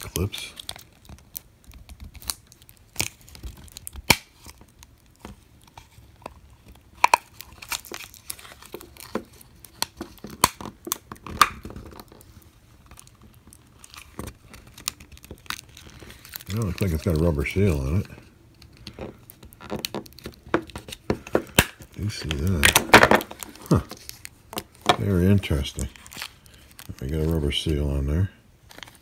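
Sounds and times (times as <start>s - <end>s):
plastic casing clicking and creaking: 0.0s - 27.0s.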